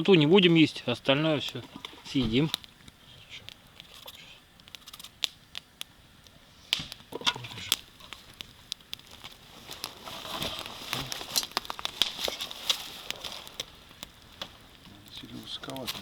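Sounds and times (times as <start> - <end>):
campfire crackling: 0.0 - 16.0
sharp fire snaps: 0.0 - 16.0.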